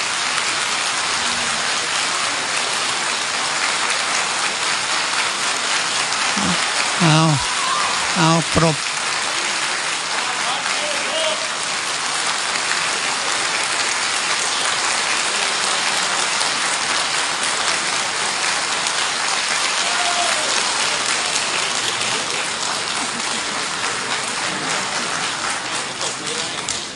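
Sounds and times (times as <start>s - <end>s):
crowd applauding: 0.0s - 26.9s.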